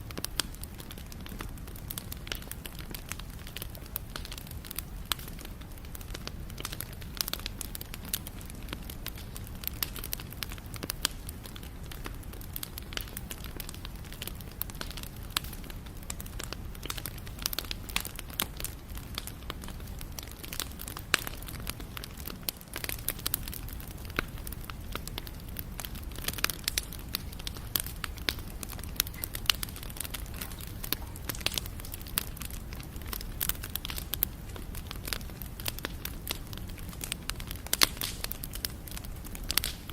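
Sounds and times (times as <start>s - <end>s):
campfire crackles and pops: 0.0s - 39.9s
low rumble of flames: 0.0s - 39.9s.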